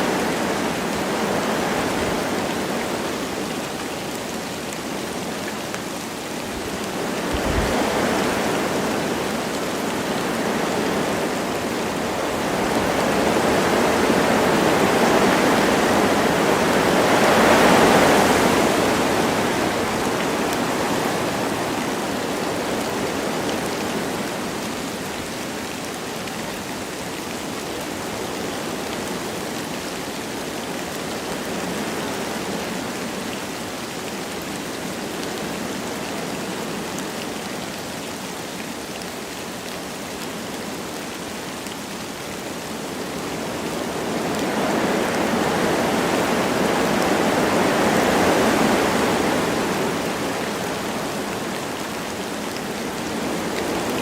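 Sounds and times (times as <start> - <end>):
light rain falling: 0.0 - 54.0
wind through forest trees: 0.0 - 54.0.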